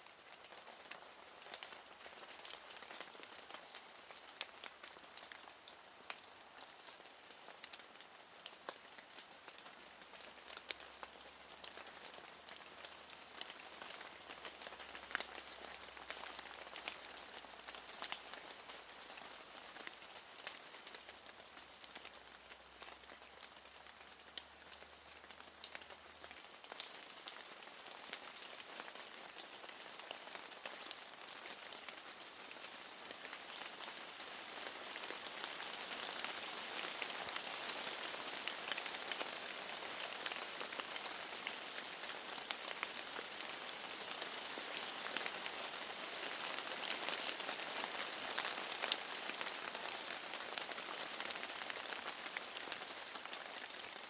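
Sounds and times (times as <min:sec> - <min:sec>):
rain against a window: 0:00.0 - 0:54.0.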